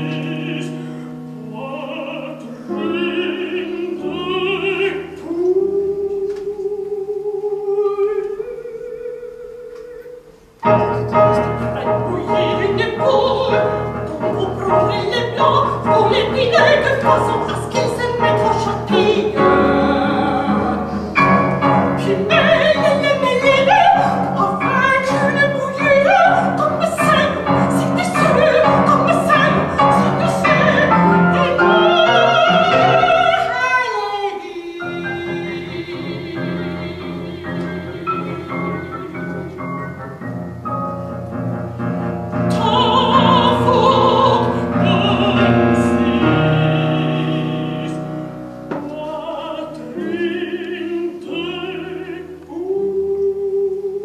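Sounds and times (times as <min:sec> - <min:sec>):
woman singing operatically: 0:00.0 - 0:39.9, 0:42.3 - 0:48.2, 0:48.8 - 0:54.0
grand piano accompaniment: 0:00.0 - 0:54.0.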